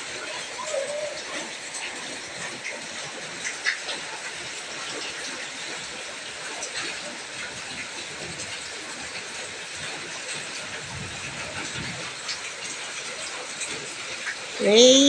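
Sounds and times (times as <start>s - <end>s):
rain on concrete patio: 0.0s - 15.0s.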